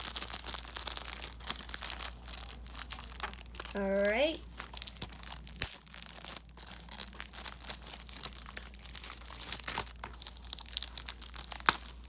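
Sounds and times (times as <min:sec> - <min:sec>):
plastic crinkling and tearing: 0:00.0 - 0:12.0.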